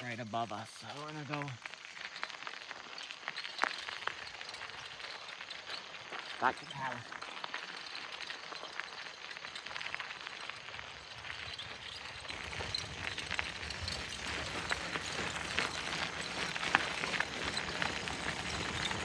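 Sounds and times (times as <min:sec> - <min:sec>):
bike tyres rustling on rough ground: 0:00.0 - 0:19.0
bike clicks and rattles: 0:00.9 - 0:19.0.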